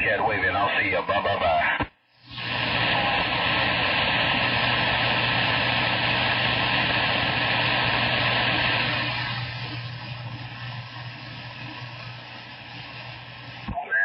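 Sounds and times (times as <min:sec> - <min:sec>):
radio static hissing: 0:00.0 - 0:14.0
low steady hum: 0:02.2 - 0:13.8.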